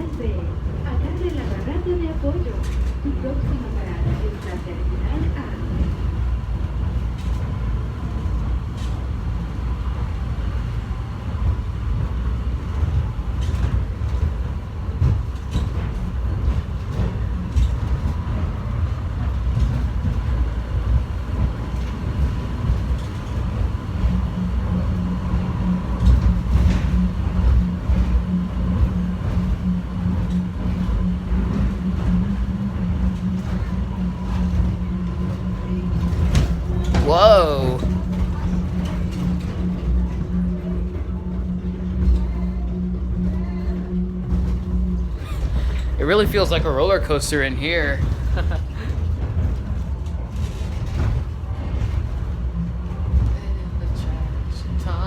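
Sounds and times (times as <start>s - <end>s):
train rumbling on track: 0.0s - 55.0s.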